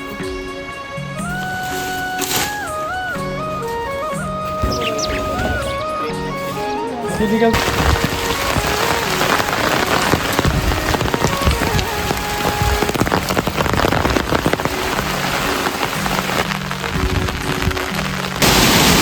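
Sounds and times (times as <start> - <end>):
faint background music: 0.0 - 18.6
heavy rain pattering: 0.0 - 19.0.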